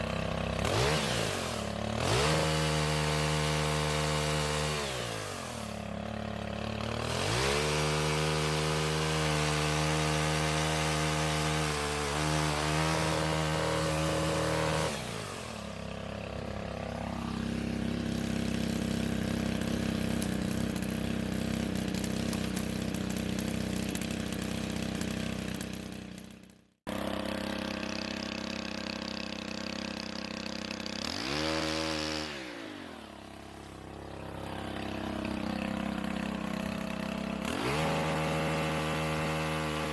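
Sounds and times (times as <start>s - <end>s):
pole chainsaw engine revving: 0.0s - 39.9s.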